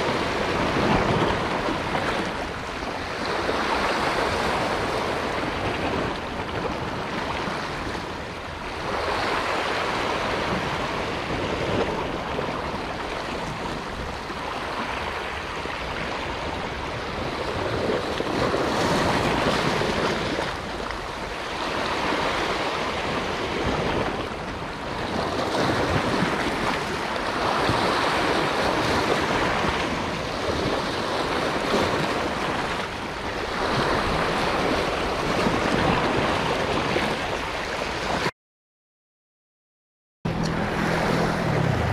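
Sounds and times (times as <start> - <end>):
waves breaking over rocks: 0.0 - 38.3, 40.4 - 41.9.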